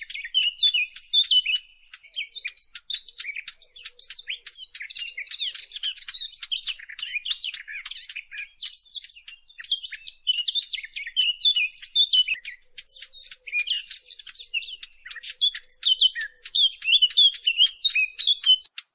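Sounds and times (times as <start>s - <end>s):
songbird chirping and warbling: 0.0s - 18.9s.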